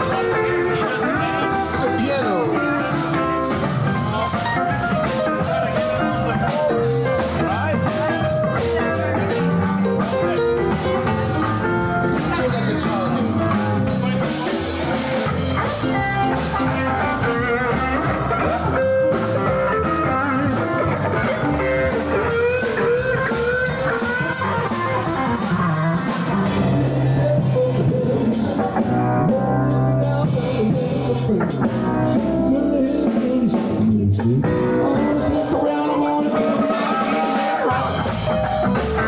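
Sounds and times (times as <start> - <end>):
live band playing: 0.0 - 39.0
steady drum beat: 0.0 - 39.0.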